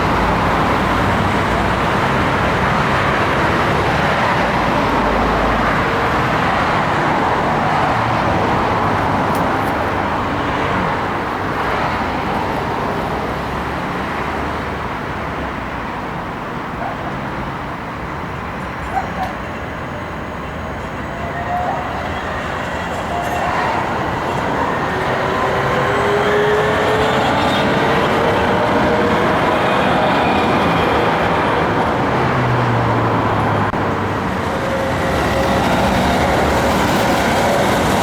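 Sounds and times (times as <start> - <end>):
street traffic noise: 0.0 - 38.0
tram whining: 0.0 - 38.0.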